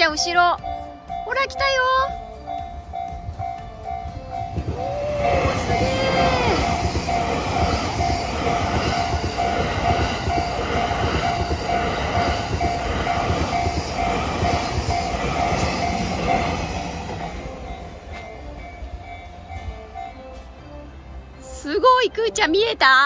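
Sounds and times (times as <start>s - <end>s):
level-crossing bell ringing: 0.0s - 20.4s
train rumbling past: 0.0s - 22.8s.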